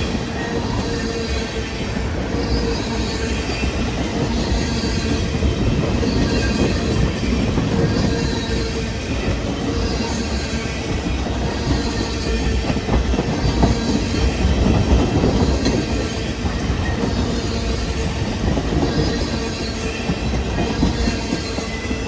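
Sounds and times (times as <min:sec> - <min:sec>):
train rolling past on rails: 0:00.0 - 0:22.0.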